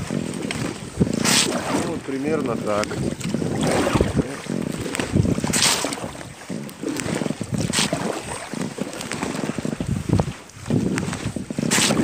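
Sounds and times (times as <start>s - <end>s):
paddle stroking through water: 0.0s - 12.0s
water splashes: 0.0s - 12.0s
wind rumble on microphone: 0.0s - 12.0s.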